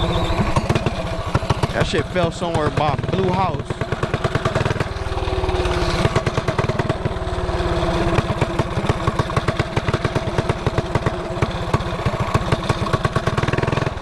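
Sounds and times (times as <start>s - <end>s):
small engine running steadily: 0.0s - 14.0s.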